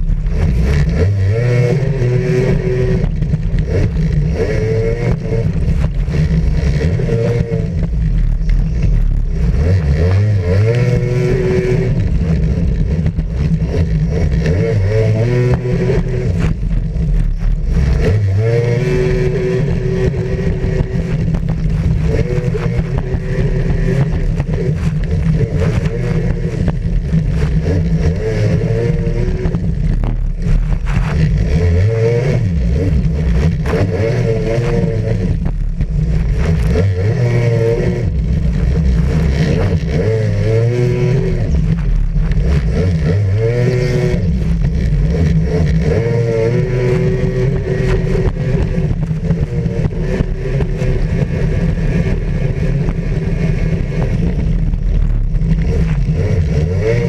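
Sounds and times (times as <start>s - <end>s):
jet ski engine revving: 0.0s - 57.0s.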